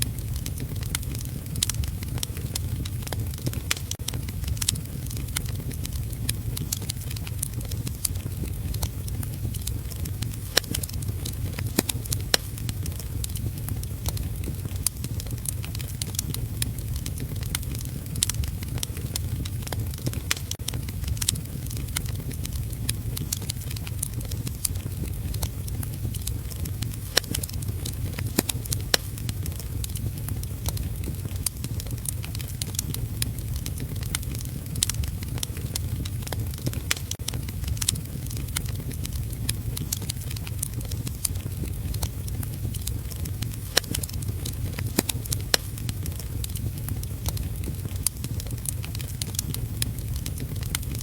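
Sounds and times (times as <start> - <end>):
sharp fire pops: 0.0 - 51.0
wood fire crackling: 0.0 - 51.0.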